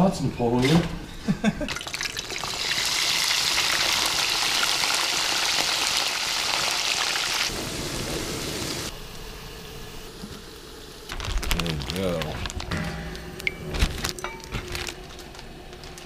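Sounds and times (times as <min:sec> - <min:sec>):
hot oil sizzling and crackling: 0:01.7 - 0:16.0.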